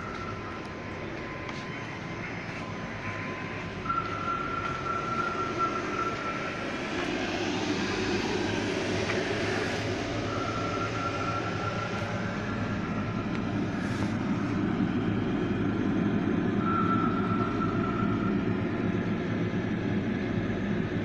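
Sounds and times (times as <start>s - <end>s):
boat engine low drone: 0.0s - 21.0s
thin high whine: 0.0s - 21.0s.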